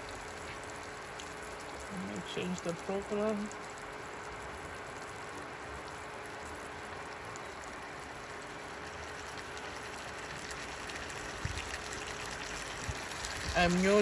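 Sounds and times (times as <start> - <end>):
faint steady hum: 0.0 - 14.0
stew bubbling: 0.0 - 14.0.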